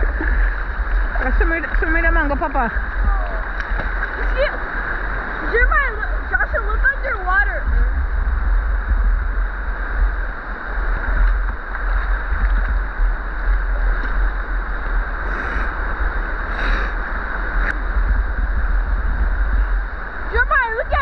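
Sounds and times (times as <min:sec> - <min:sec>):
river water rushing: 0:00.0 - 0:21.0
water splashes: 0:00.0 - 0:21.0.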